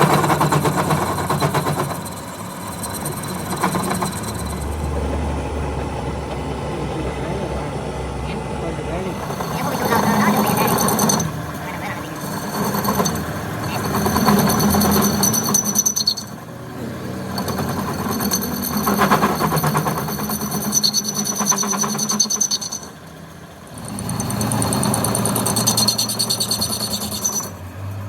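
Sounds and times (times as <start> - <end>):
power tool rattling whine: 0.0 - 28.0.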